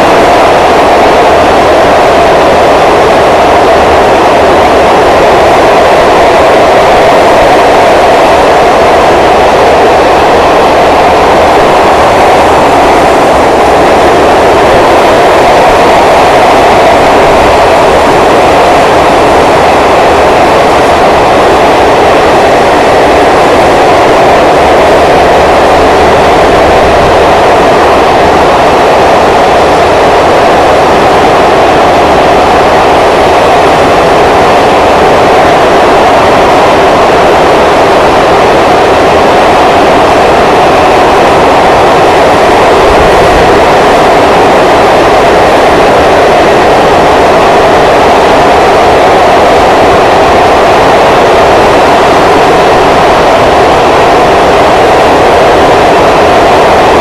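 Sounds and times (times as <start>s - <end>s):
train running through tunnel: 0.0s - 57.0s.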